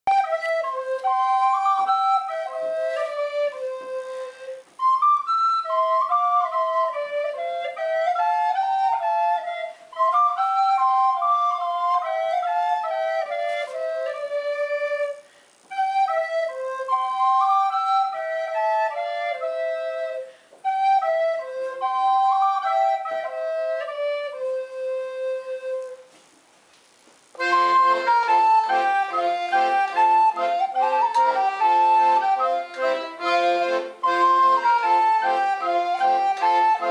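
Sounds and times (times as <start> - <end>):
recorder playing a carol melody: 0.0 - 26.2, 27.4 - 36.9.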